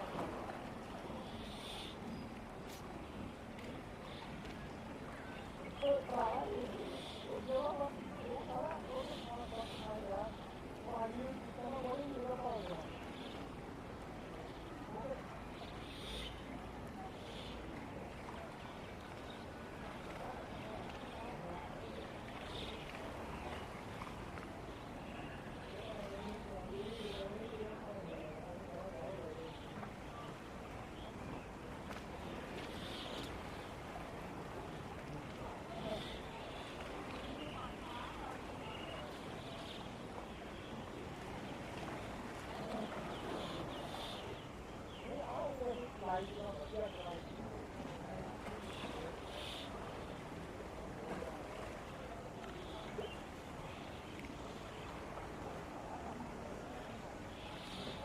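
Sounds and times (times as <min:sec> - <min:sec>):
faint distant voices: 0:00.0 - 0:58.0
street background noise: 0:00.0 - 0:58.0.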